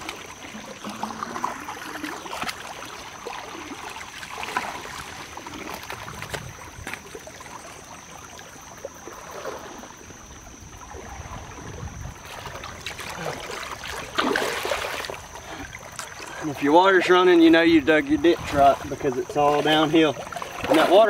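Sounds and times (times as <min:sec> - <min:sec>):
water trickling down trench: 0:00.0 - 0:21.0.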